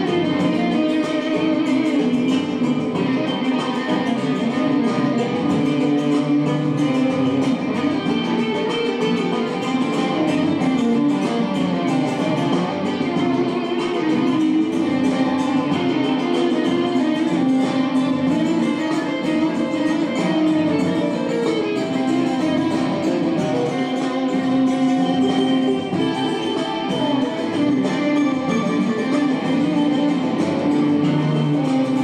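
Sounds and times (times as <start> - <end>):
plucked string instrument music: 0.0 - 32.0.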